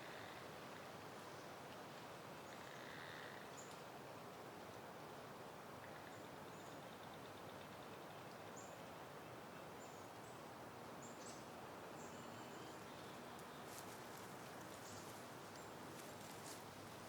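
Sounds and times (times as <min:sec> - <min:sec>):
soft wind hiss: 0:00.0 - 0:17.0.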